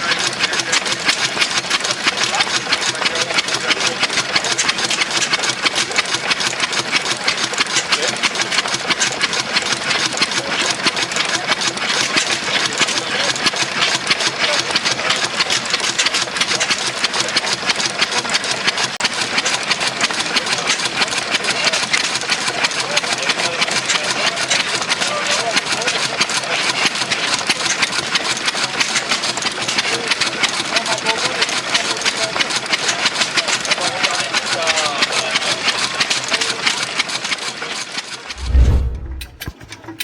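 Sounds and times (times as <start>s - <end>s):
old engine clattering: 0.0s - 40.0s.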